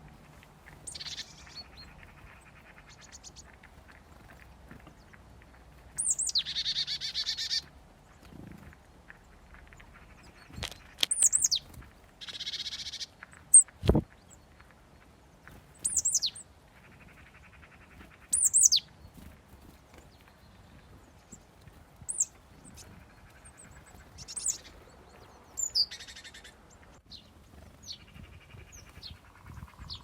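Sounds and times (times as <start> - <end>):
songbirds calling: 0.0 - 30.0.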